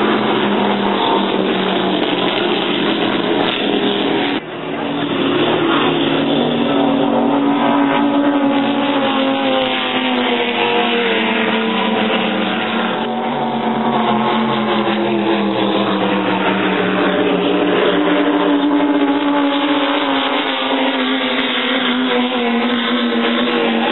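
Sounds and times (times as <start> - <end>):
powerboat engines droning: 0.0 - 23.9.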